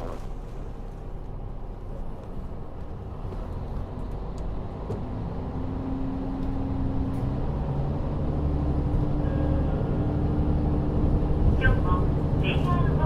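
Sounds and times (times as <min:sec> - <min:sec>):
railcar diesel engine pulling: 0:00.0 - 0:13.0.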